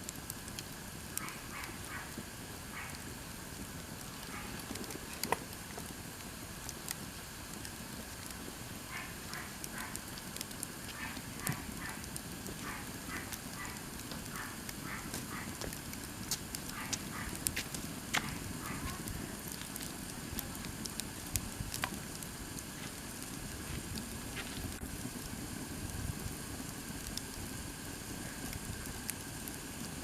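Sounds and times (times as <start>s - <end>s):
campfire crackling and popping: 0.0s - 30.0s
low rush of flame: 0.0s - 30.0s.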